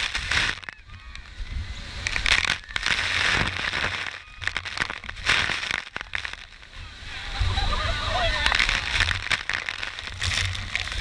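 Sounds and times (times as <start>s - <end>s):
water spray rushing: 0.0s - 7.5s, 8.2s - 11.0s.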